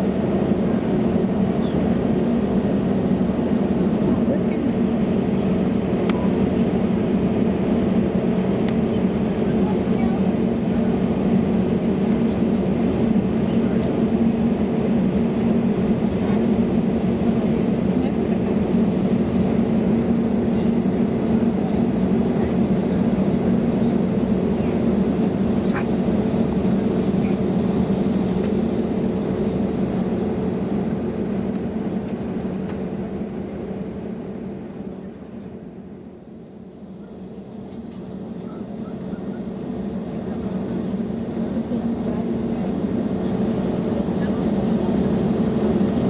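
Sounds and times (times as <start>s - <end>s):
airplane cabin drone: 0.0s - 46.0s.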